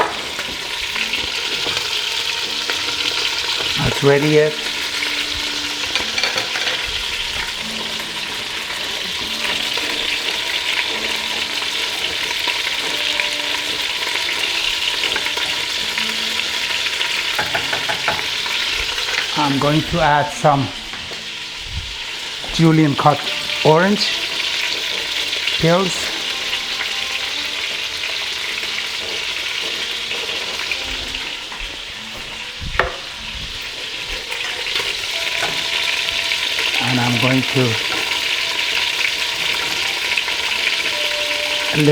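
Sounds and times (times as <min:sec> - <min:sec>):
chicken frying in oil: 0:00.0 - 0:41.9.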